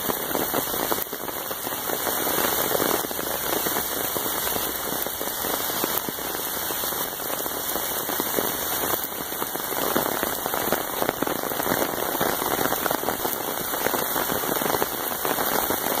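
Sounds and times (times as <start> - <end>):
heavy rain on water and paving: 0.0 - 16.0.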